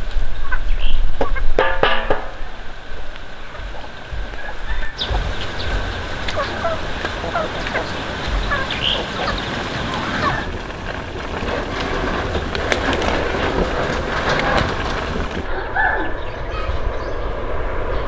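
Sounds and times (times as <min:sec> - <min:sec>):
birds chirping: 0:00.0 - 0:01.6, 0:02.2 - 0:18.0
steady hiss: 0:00.0 - 0:15.4.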